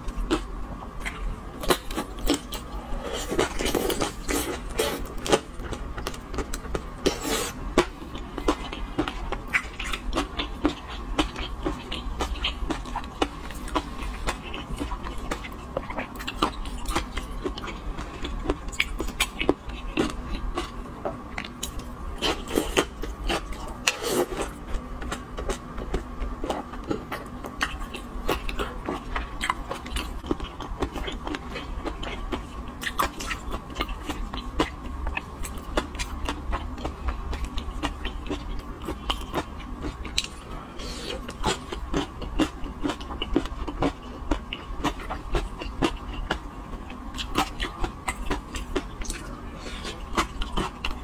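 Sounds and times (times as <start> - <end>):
chewing and biting: 0.0 - 51.0
steady low hum: 0.0 - 51.0.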